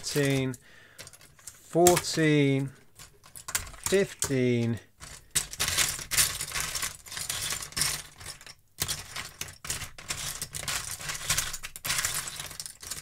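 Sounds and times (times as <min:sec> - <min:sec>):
plastic toys clattering: 0:00.0 - 0:13.0.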